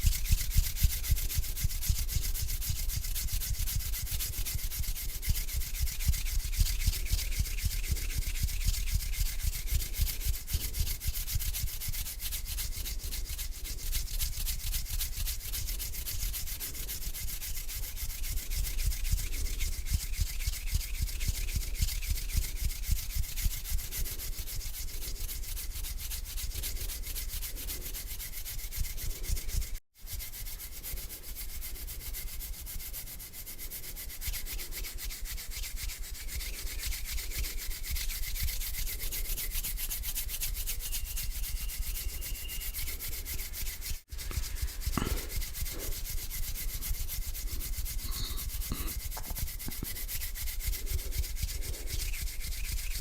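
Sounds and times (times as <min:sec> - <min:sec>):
hands rubbing together: 0:00.0 - 0:53.0.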